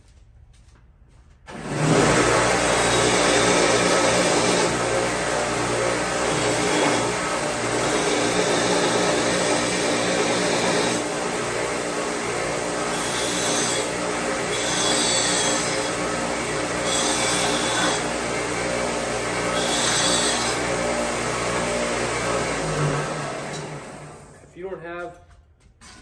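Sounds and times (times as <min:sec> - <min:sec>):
metal pipe grinding on sander: 0:01.5 - 0:24.4
power sander running: 0:01.5 - 0:24.5.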